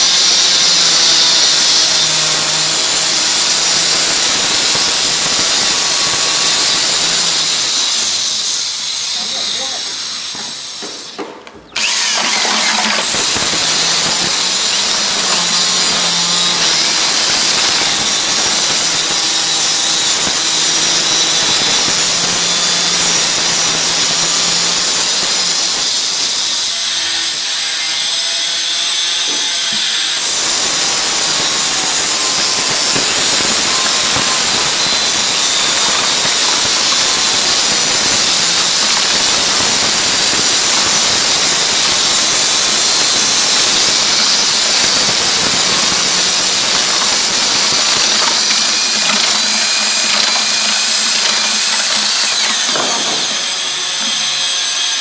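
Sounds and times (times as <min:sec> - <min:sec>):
electric drill mixer whining: 0:00.0 - 0:55.0.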